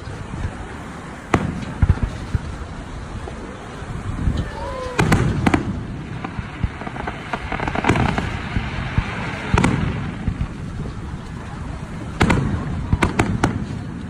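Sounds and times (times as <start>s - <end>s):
fireworks bursting with sharp bangs: 0.0s - 14.0s
fireworks crackling: 0.0s - 14.0s.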